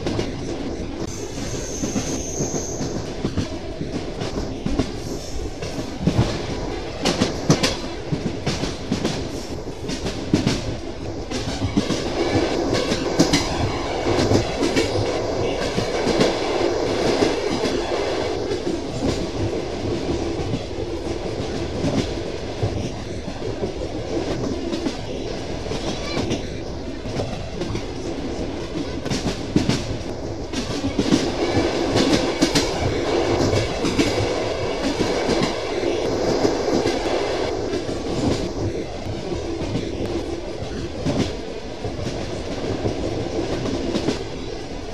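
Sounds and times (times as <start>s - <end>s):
train rolling rumble: 0.0s - 44.9s.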